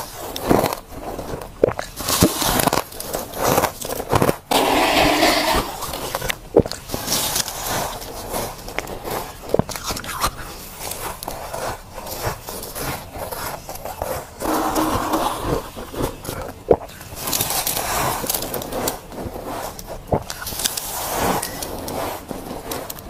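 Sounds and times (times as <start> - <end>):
crunching frost: 0.0 - 23.0.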